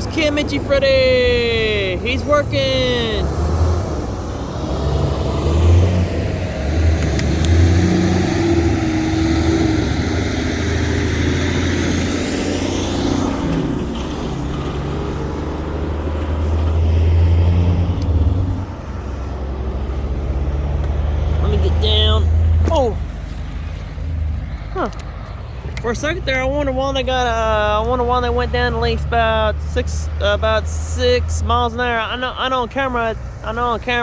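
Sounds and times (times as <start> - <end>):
wheel and rail noise: 0.0 - 34.0.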